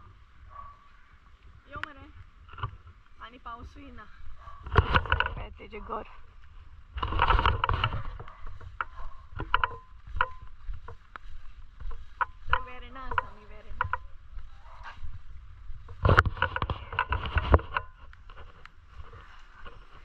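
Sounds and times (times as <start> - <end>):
camera and clothing rustling: 0.0 - 20.0
wind on microphone: 0.0 - 20.0.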